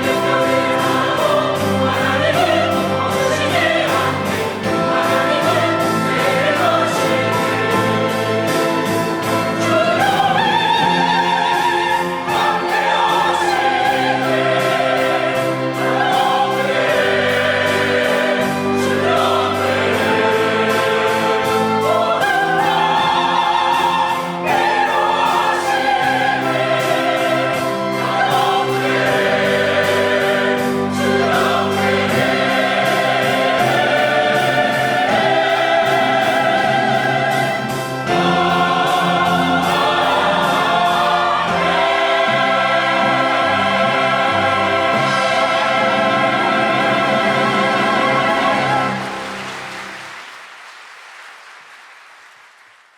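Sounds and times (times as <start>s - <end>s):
steady drum beat: 0.0s - 49.0s
choir singing a hymn: 0.0s - 49.8s
chamber orchestra: 0.0s - 50.2s
piano: 0.0s - 50.6s.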